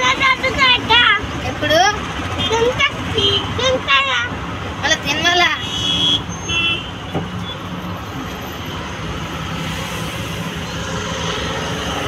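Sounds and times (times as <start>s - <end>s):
motor vehicle running: 0.0s - 12.0s.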